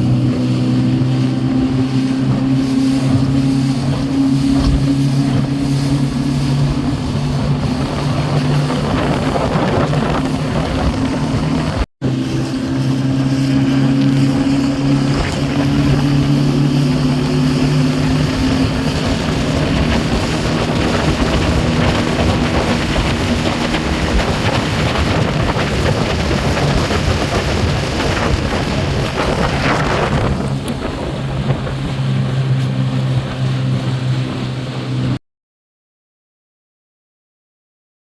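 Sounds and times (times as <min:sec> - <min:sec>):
motorboat engine running: 0:00.0 - 0:35.2
wind rushing over microphone: 0:00.0 - 0:35.2.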